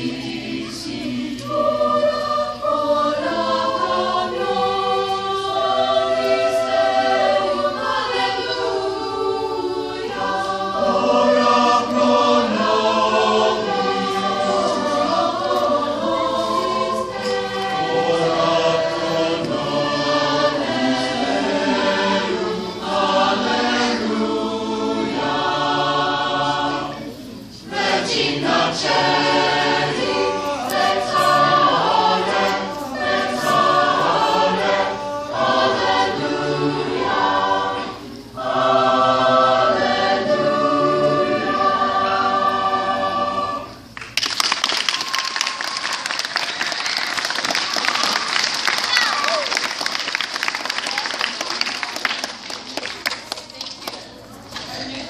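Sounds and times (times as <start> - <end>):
youth choir singing in parts: 0.0 - 52.2.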